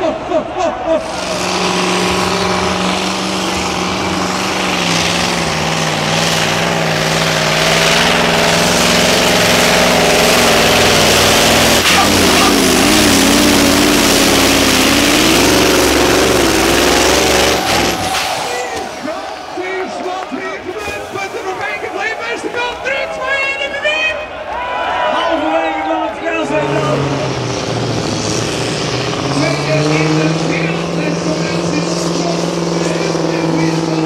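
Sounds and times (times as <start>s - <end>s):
truck diesel engine at full throttle: 1.0s - 23.8s, 25.5s - 34.0s.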